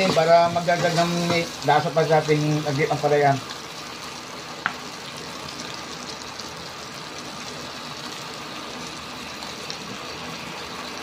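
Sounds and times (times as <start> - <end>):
beef sizzling in a wok: 0.0 - 11.0.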